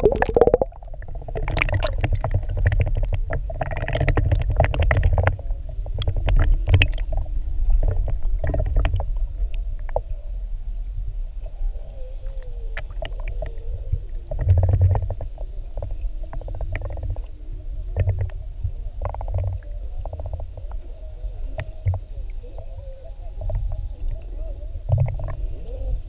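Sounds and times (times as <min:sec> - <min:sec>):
underwater clicks and crackles: 0:00.0 - 0:10.1, 0:12.2 - 0:25.5
underwater rumble of moving water: 0:00.0 - 0:26.0
whale song: 0:04.6 - 0:26.0.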